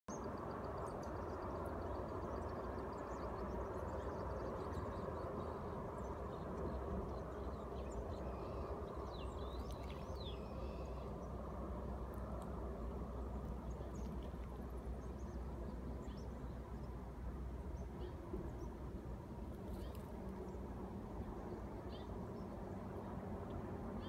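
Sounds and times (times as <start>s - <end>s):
steady low rumble: 0.1s - 24.0s.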